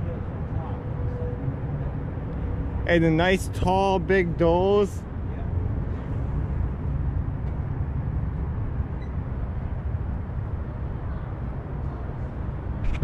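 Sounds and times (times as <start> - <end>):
street background rumble: 0.0 - 13.0.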